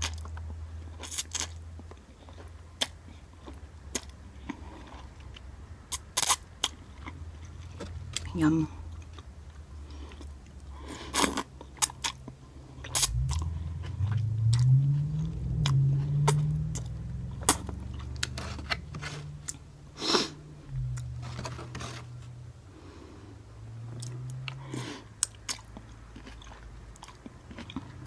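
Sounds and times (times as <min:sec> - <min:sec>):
chewing: 0:00.0 - 0:19.6, 0:23.9 - 0:28.0.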